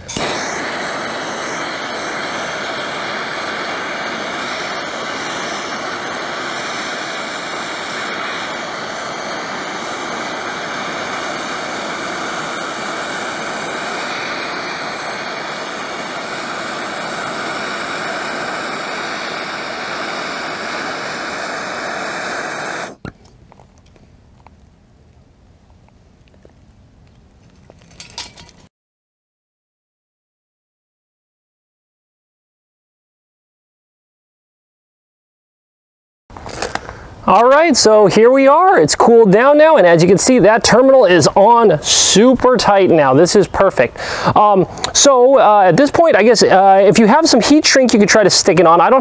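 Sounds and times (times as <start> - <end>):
gas torch burning with whistle: 0.0 - 28.7, 36.3 - 49.0.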